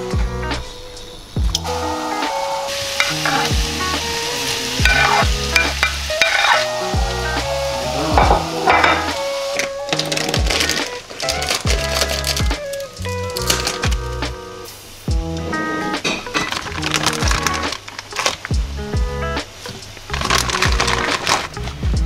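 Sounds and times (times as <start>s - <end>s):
food sizzling in a pan: 0.0s - 18.8s, 19.4s - 21.8s
music with a steady beat: 0.0s - 22.0s.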